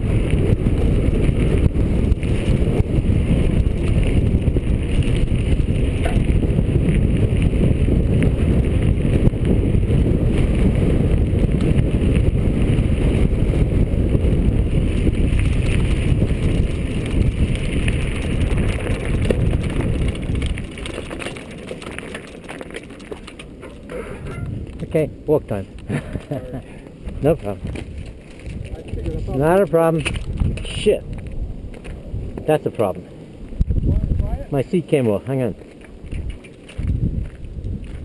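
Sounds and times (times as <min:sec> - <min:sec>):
bike rattling over rough dirt: 0:00.0 - 0:38.0
wind buffeting microphone: 0:00.0 - 0:38.0.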